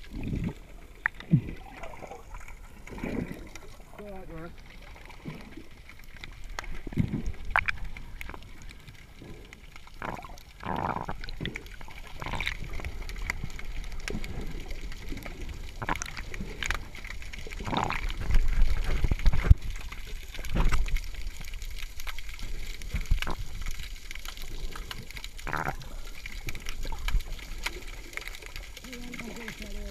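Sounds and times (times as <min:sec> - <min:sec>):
underwater sloshing and gurgling: 0:00.0 - 0:29.9.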